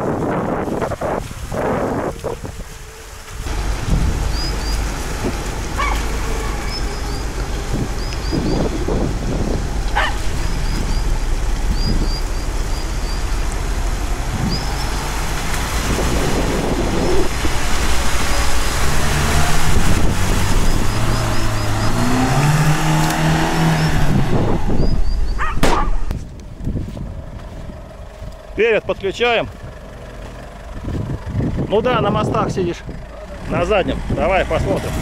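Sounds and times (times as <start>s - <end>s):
car engine working under load: 0.0s - 35.0s
wheel and water noise: 0.0s - 35.0s.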